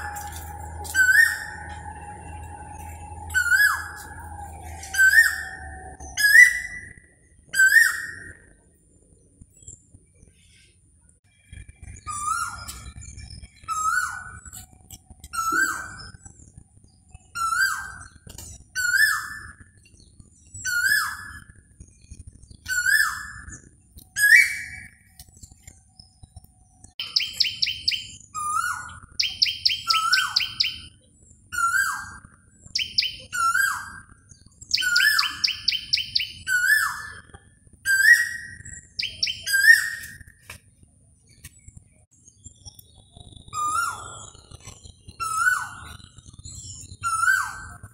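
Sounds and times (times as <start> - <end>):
shrill trilled bird notes: 0.0 - 8.6, 11.5 - 16.3, 17.1 - 21.6, 22.5 - 25.7, 27.0 - 40.4, 42.3 - 47.9.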